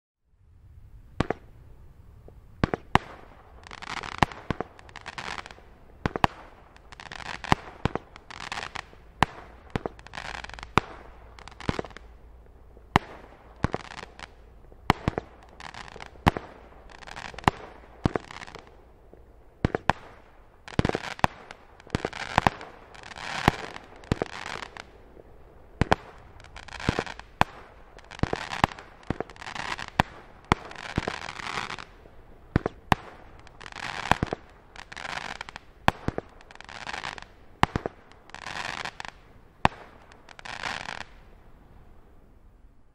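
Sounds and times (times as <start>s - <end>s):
crackling star bursts: 0.4s - 42.9s
fireworks bangs: 1.2s - 1.6s, 2.2s - 41.4s.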